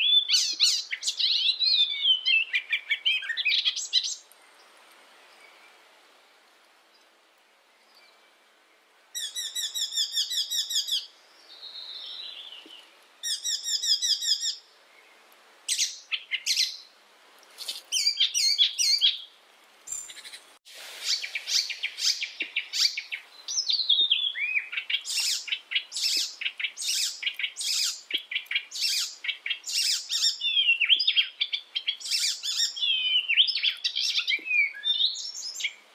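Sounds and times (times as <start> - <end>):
warbler singing: 0.0 - 4.7, 9.2 - 16.9, 17.6 - 19.3, 21.1 - 35.9.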